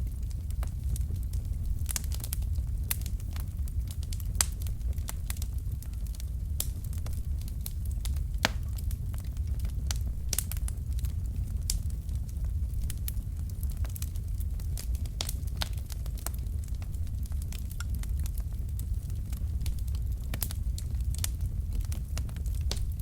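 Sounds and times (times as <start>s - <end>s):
fireplace logs crackling: 0.0s - 23.0s
low rumble of flames: 0.0s - 23.0s.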